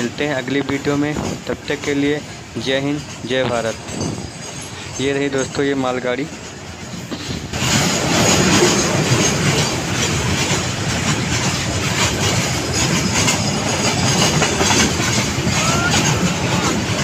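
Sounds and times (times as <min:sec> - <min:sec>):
freight train rumbling past: 0:00.0 - 0:17.0
wheels clattering over rail joints: 0:00.0 - 0:17.0.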